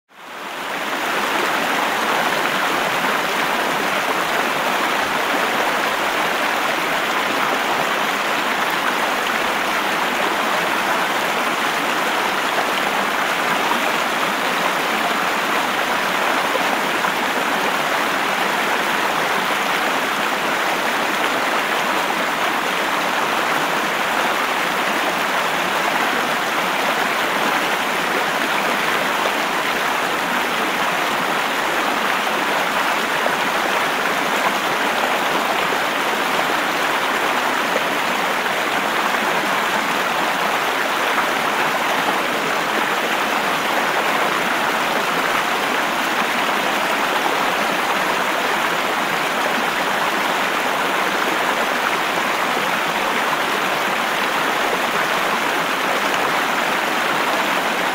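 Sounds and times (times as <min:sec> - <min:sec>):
river rushing over rapids: 0:00.2 - 0:57.9.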